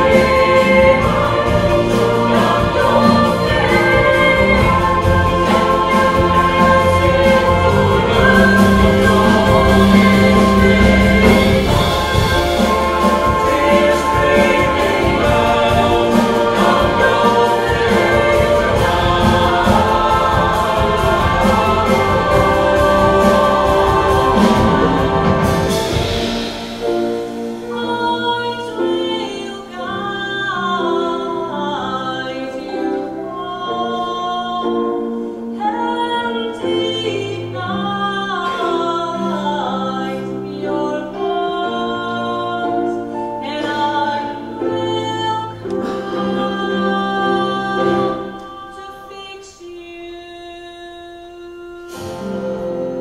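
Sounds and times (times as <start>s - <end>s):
choir singing with instruments: 0.0s - 53.0s.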